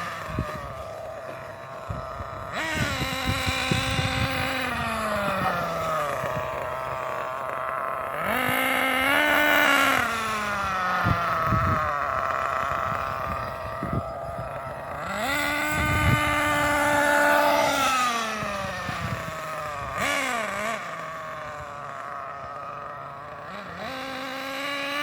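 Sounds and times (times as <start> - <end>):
small engine buzzing and revving: 0.0 - 25.0.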